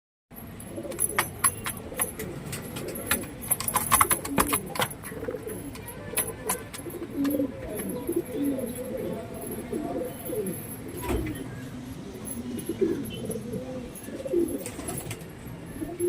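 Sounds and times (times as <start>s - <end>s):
pigeons cooing: 0.4s - 16.0s.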